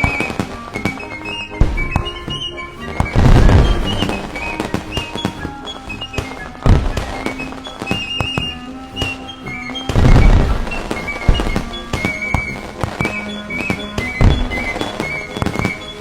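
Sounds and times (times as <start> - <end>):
fireworks booming: 0.0 - 9.2, 9.9 - 16.0
fireworks crackling: 0.0 - 16.0
music with steady melody: 0.0 - 16.0.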